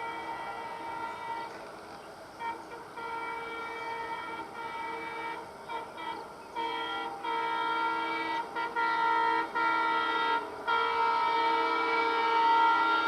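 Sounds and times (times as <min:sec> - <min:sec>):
train horn blasts: 0:00.0 - 0:13.0.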